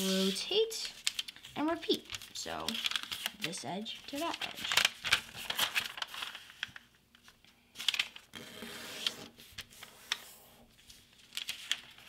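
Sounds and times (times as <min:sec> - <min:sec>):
paper crackles: 0:00.0 - 0:12.0
paper rustling and crinkling: 0:00.0 - 0:12.0.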